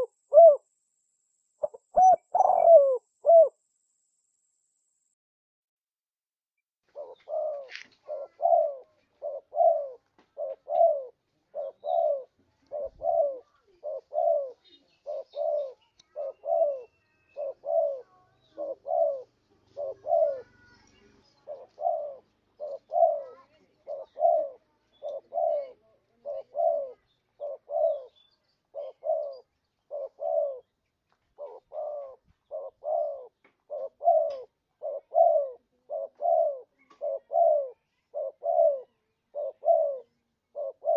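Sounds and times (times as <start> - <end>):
dove cooing: 0.0 - 0.7, 1.6 - 3.7, 6.9 - 30.8, 31.4 - 40.9.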